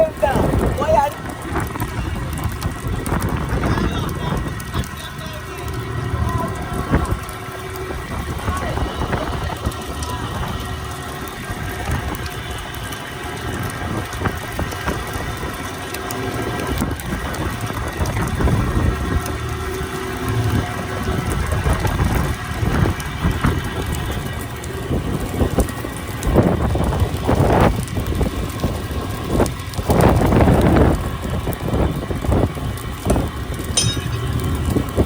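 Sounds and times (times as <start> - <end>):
wind on microphone: 0.0 - 10.7, 16.6 - 19.7, 20.3 - 35.0
boat engine running: 0.0 - 35.0.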